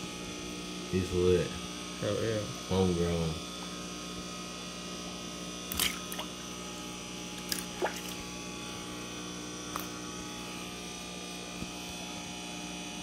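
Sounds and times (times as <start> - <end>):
pumps and filters humming: 0.0 - 13.0.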